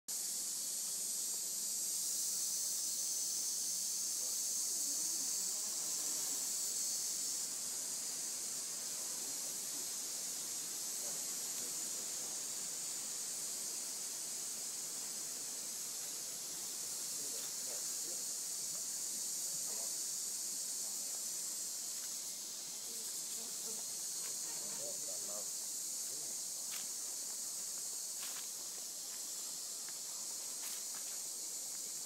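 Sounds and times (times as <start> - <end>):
insects chorus high-pitched hiss: 0.1 - 32.0.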